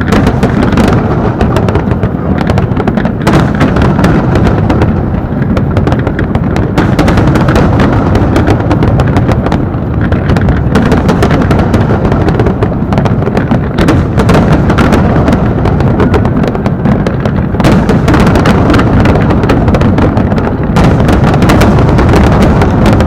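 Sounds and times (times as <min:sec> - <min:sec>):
fireworks booming: 0:00.0 - 0:23.0
fireworks crackling: 0:00.0 - 0:23.0.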